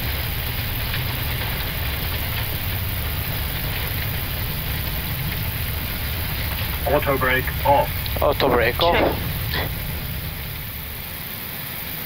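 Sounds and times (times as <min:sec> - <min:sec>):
aircraft low rumble and roar: 0:00.0 - 0:12.0.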